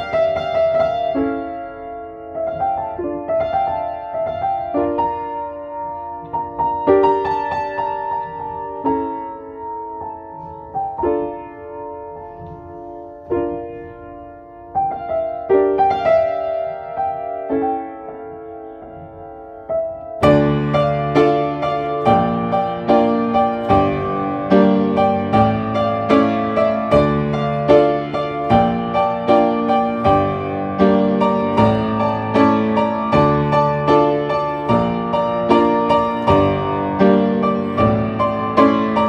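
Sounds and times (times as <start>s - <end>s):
slow gentle piano piece: 0.0s - 39.0s.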